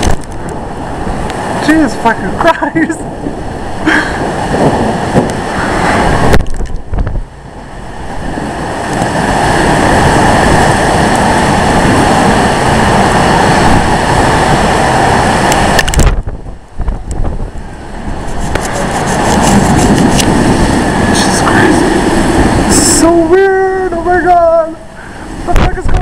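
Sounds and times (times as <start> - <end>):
wind buffeting microphone: 0.0 - 26.0
wind gusting: 0.0 - 26.0
wind-driven rain: 0.0 - 26.0.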